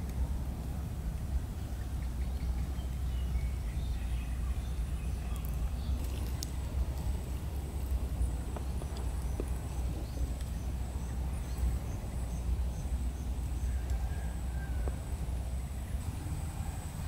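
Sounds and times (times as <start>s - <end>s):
low rumble on microphone: 0.0s - 17.0s.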